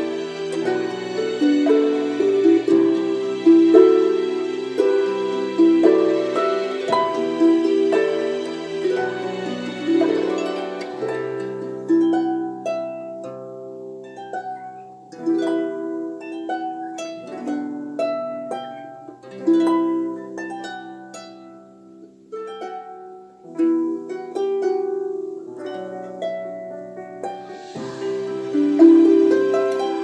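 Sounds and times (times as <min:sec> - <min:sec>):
harp playing slow melody: 0:00.0 - 0:30.0.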